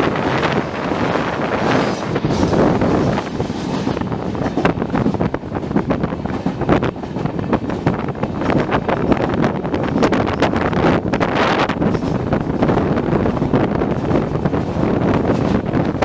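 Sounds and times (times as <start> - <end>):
train running at speed: 0.0 - 16.0
wind buffeting microphone: 0.0 - 16.0.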